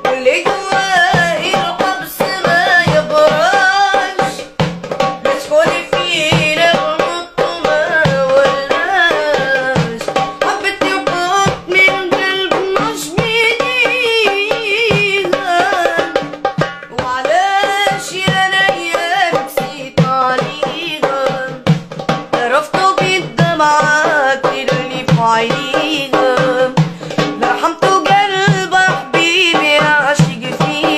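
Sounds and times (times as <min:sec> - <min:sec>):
boy singing: 0:00.0 - 0:30.9
darbuka drums beating: 0:00.0 - 0:30.9.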